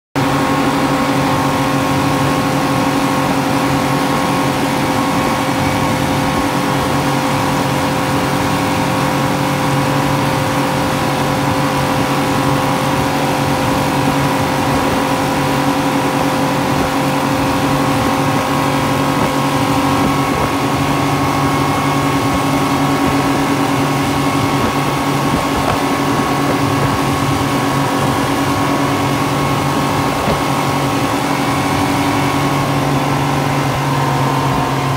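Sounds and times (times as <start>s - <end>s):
churning wake rushing: 0.2s - 34.9s
outboard motor droning: 0.2s - 34.9s.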